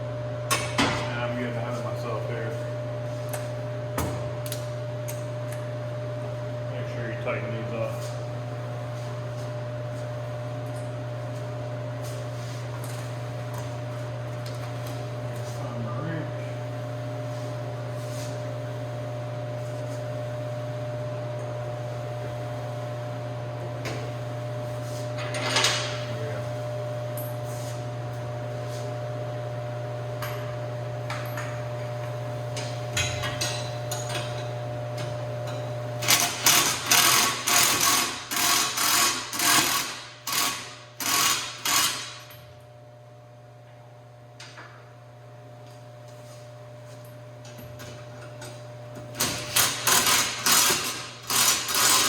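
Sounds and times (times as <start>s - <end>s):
steady mechanical hum: 0.0s - 52.0s.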